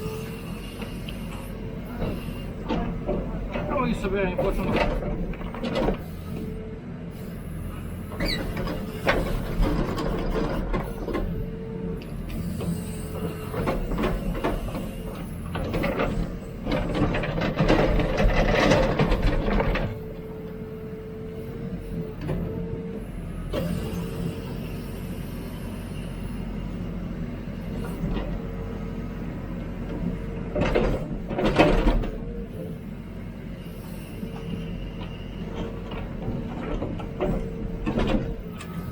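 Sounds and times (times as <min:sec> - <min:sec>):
diesel engine under load: 0:00.0 - 0:38.9
hydraulics working: 0:00.0 - 0:38.9.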